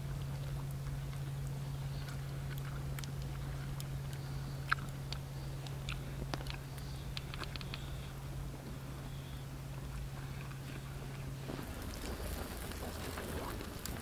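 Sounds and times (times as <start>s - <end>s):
biting and chewing bread: 0.0s - 8.2s, 9.8s - 14.0s
steady low hum: 0.0s - 14.0s.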